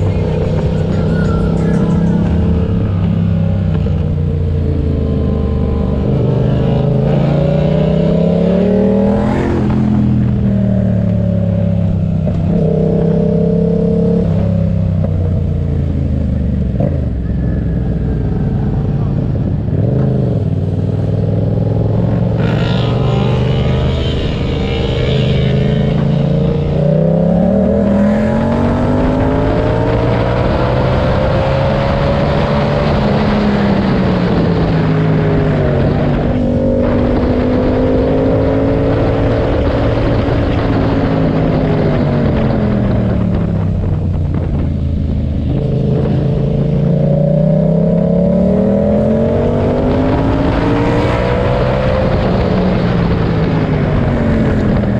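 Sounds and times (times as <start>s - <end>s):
motorcycle engine revving: 0.0s - 54.9s
wind rushing on microphone: 0.0s - 54.9s.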